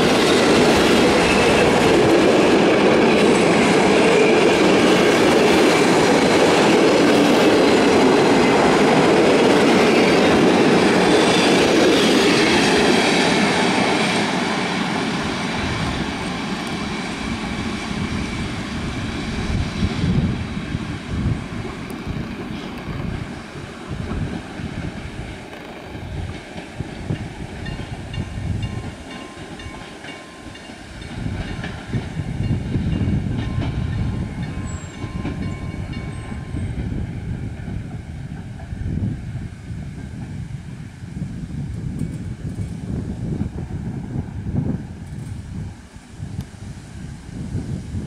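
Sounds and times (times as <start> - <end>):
train wheels clacking on rail joints: 0.0 - 40.4
low train rumble: 0.0 - 48.0.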